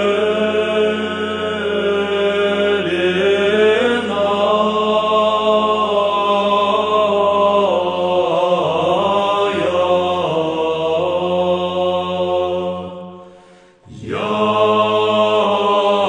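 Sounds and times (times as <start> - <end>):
male choir chanting: 0.0 - 16.0.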